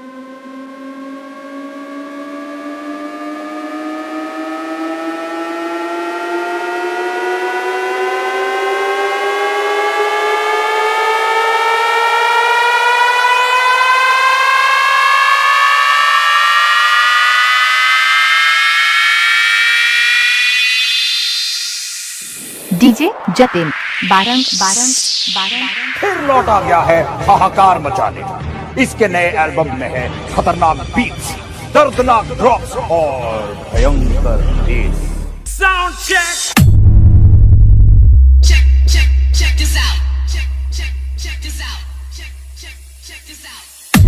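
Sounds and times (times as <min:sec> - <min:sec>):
rising synthesized tone: 0:00.0 - 0:44.0.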